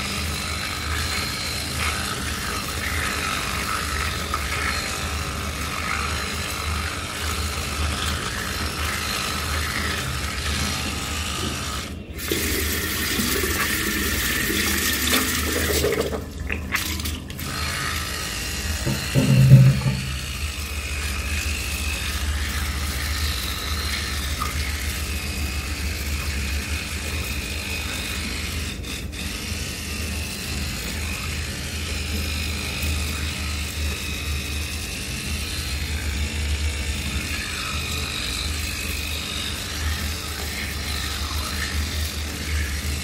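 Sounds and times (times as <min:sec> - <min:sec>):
electric toothbrush humming: 0:00.0 - 0:43.0
teeth brushing: 0:00.0 - 0:43.0.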